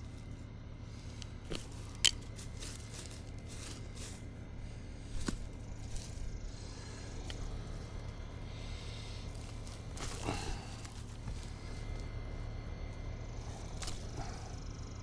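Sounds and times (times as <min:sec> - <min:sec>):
plants rustling: 0:00.0 - 0:14.7
steady low hum: 0:00.0 - 0:15.0.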